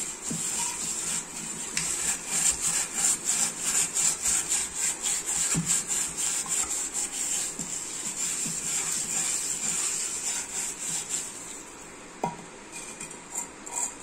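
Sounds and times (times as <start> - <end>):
scrubbing a steel pot: 0.0 - 11.7.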